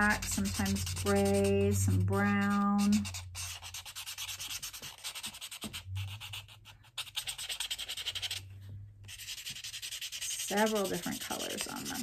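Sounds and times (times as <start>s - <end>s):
marker scribbling on paper plate: 0.0s - 8.4s, 9.1s - 12.0s.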